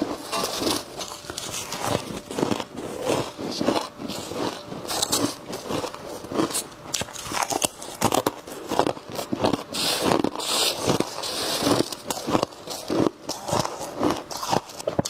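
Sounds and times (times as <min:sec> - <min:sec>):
chewing crunchy frost: 0:00.0 - 0:15.0.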